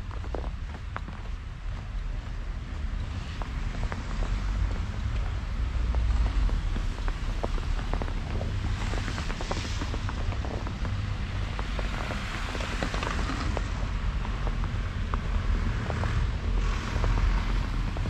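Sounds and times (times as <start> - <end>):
footsteps crunching on snow: 0.0 - 18.0
steady low rumble: 0.0 - 18.0.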